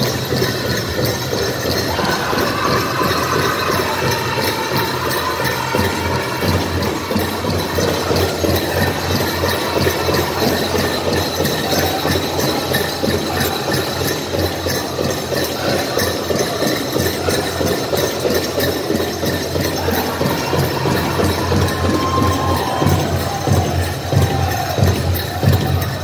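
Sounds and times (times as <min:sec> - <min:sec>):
drum beaten in steady rhythm: 0:00.0 - 0:26.0.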